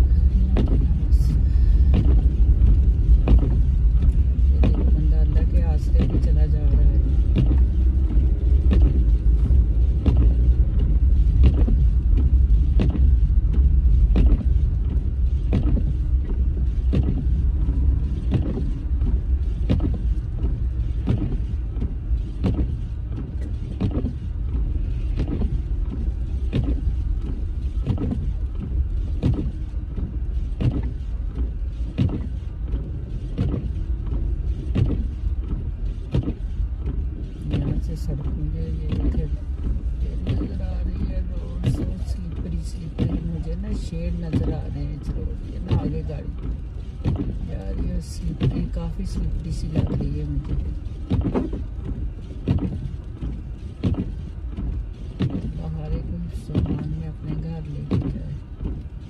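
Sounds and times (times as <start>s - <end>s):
car driving rumble: 0.0s - 59.0s
windshield wipers knocking: 0.0s - 59.0s.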